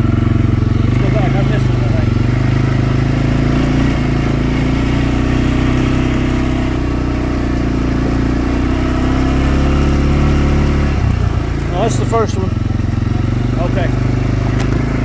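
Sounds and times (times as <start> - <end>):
vehicle engine driving: 0.0 - 15.0.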